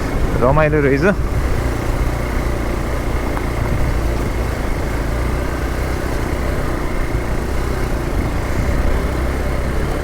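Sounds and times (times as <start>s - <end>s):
continuous noisy rumble: 0.0s - 10.0s
motorcycle engine running: 0.0s - 10.0s.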